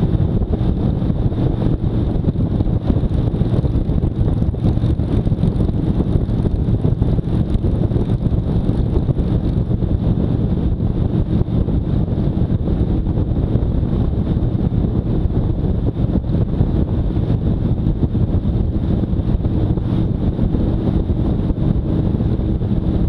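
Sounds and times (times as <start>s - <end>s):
motorcycle engine: 0.0s - 23.0s
wind buffeting on microphone: 0.0s - 23.0s.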